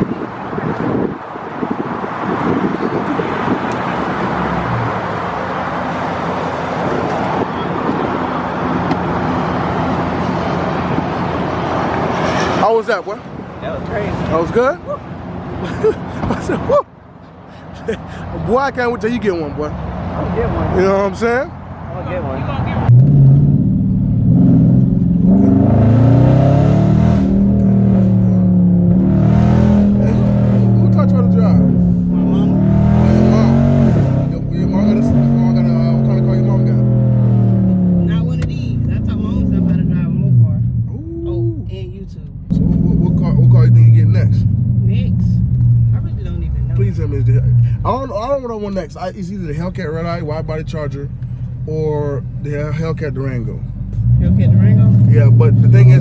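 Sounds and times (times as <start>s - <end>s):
loud car engine driving: 0.0s - 56.0s
road noise: 0.0s - 56.0s.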